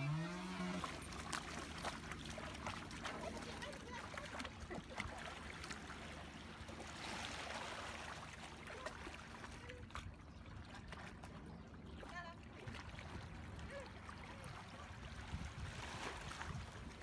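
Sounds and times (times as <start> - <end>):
dogs splashing through water: 0.1 - 17.0.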